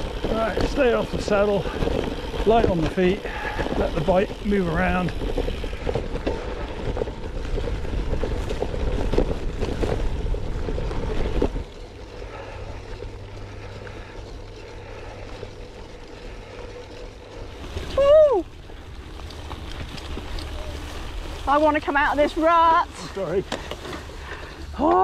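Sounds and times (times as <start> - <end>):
bike clattering over ruts: 0.0 - 25.0
bike tyres rolling: 0.0 - 25.0
low hum: 0.0 - 25.0.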